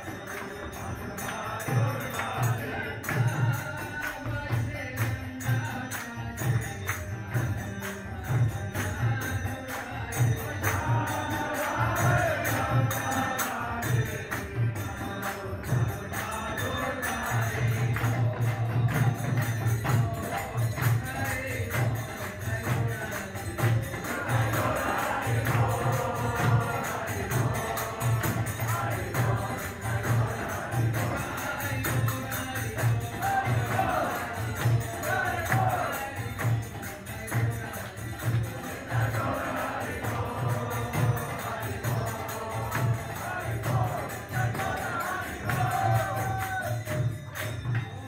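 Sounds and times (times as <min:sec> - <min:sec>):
crowd chanting: 0:00.0 - 0:06.6, 0:08.7 - 0:48.0
jingling hand cymbals: 0:00.0 - 0:48.0.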